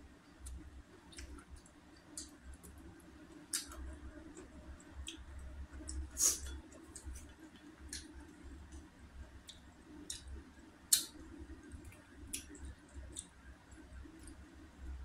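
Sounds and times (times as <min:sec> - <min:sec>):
person chewing with mouth clicks: 0:00.4 - 0:13.4.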